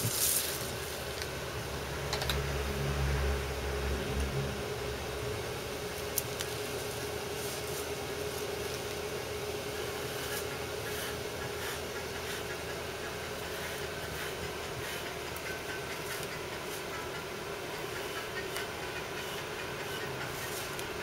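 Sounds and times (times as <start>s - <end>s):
room hum with mid-pitched tone: 0.0s - 21.0s.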